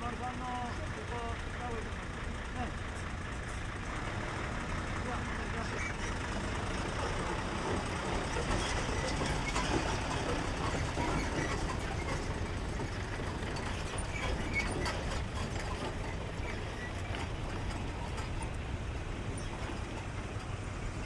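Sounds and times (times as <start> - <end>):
truck engines rumbling: 0.0 - 21.0.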